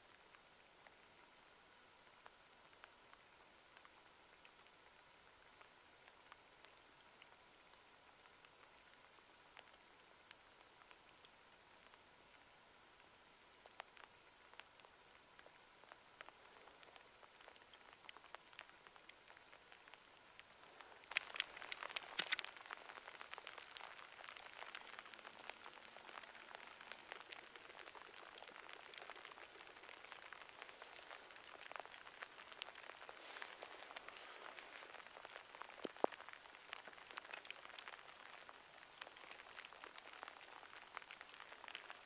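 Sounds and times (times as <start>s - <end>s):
light rain pattering: 0.0s - 42.0s.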